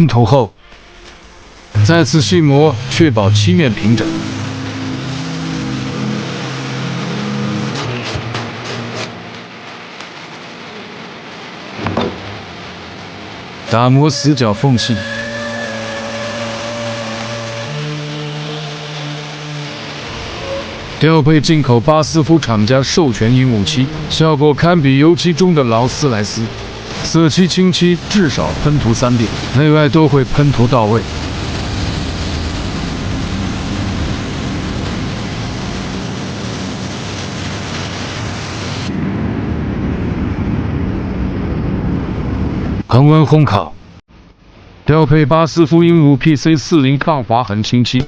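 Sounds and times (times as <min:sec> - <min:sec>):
low rumble: 0:00.0 - 0:43.0.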